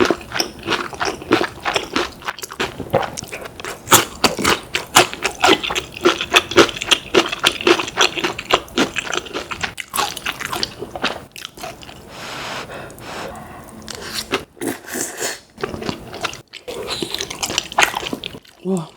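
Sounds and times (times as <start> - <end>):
food crunching: 0.0 - 12.2, 12.9 - 18.9
wet chewing and smacking: 0.0 - 12.2, 12.9 - 18.9.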